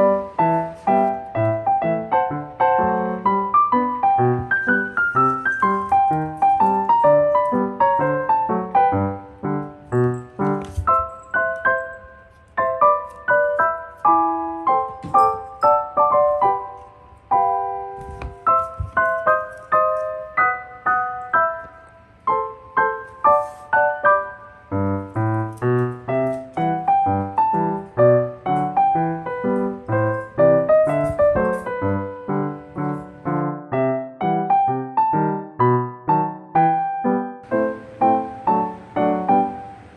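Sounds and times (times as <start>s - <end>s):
gentle solo piano melody: 0.0s - 39.9s.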